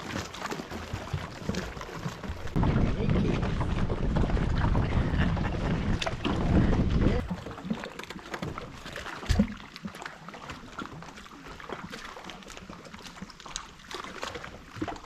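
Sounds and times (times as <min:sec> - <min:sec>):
water slapping against boat hull: 0:00.0 - 0:15.0.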